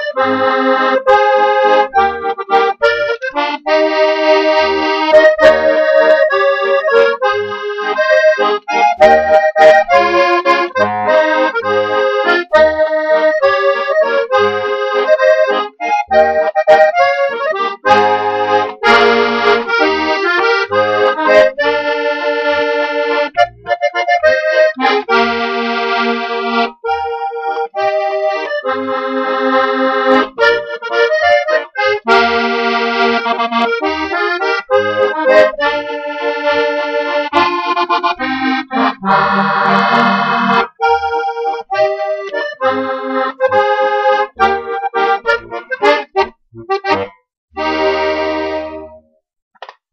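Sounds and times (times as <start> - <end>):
button accordion playing a waltz: 0.0 - 49.1.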